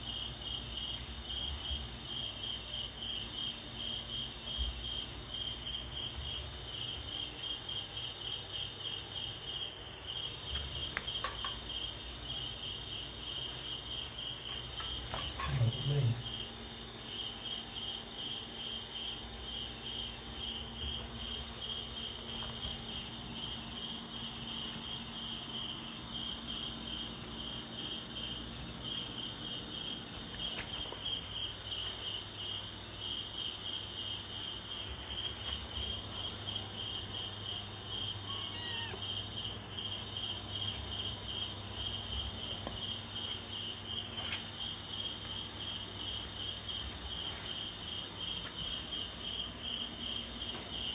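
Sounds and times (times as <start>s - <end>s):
cricket chirping: 0.0s - 50.9s.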